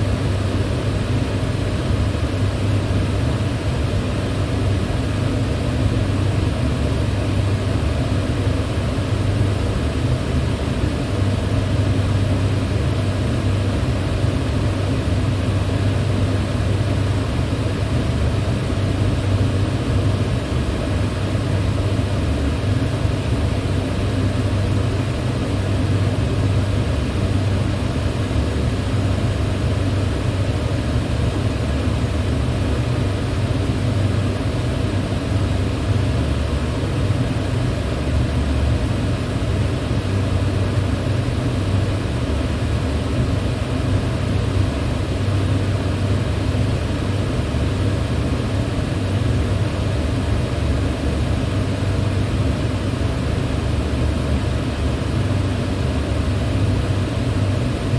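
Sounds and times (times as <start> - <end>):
electric fan running: 0.0 - 57.9.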